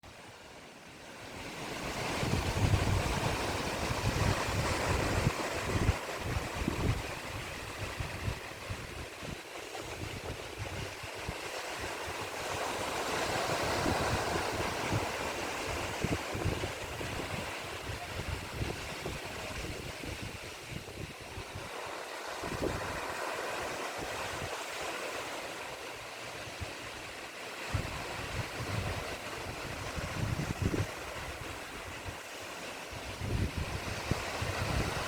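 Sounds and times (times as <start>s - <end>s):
sea waves washing onto shore: 0.0s - 35.0s
wind buffeting microphone: 1.4s - 24.8s, 26.4s - 35.0s.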